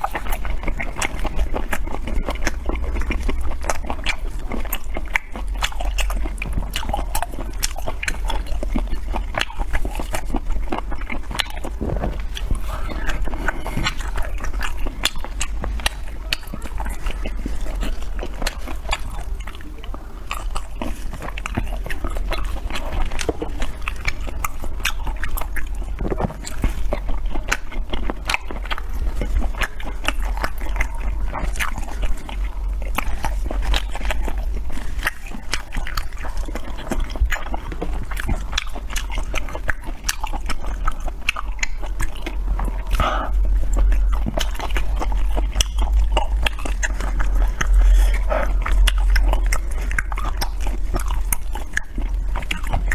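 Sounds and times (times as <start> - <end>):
close chewing and biting: 0.0 - 52.9
low hum: 0.0 - 52.9.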